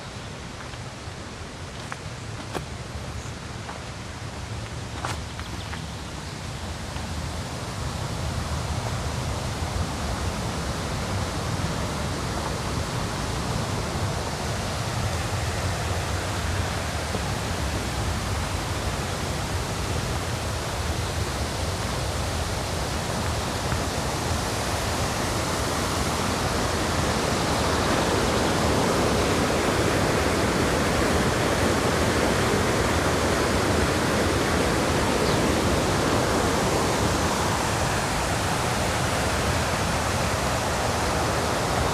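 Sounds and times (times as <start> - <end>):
river rapids rushing: 6.4 - 41.9.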